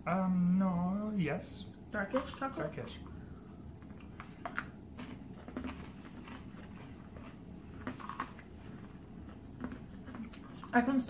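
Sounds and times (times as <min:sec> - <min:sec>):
chewing crunchy snacks: 0:02.1 - 0:11.0.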